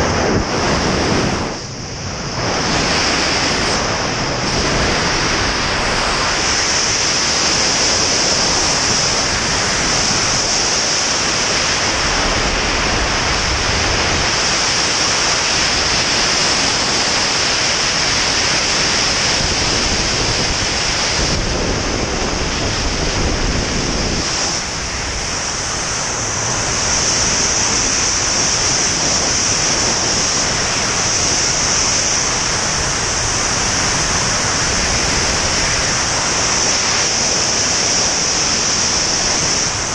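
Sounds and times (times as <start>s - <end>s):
wind roaring over microphone: 0.0s - 39.9s.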